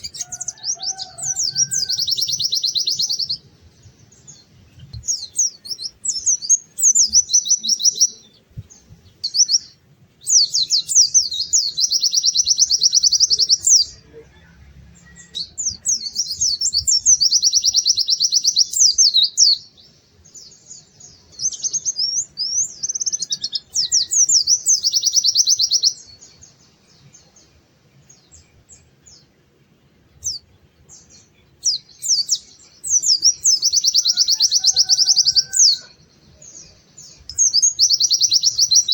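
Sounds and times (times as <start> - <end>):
songbird twittering trills: 0.0 - 38.9.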